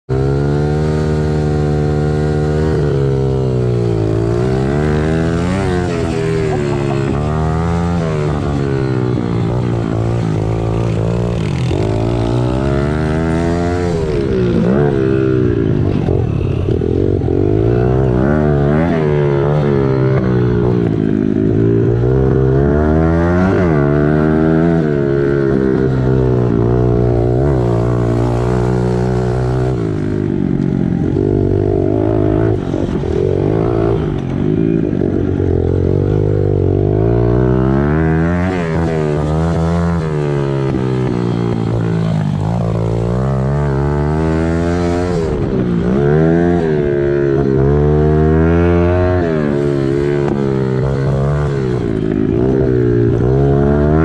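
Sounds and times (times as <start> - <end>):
pit bike engine revving: 0.1 - 54.0.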